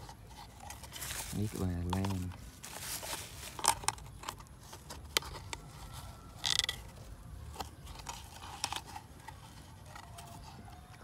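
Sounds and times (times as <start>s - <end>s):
foil crinkling and scraping: 0.0s - 11.0s.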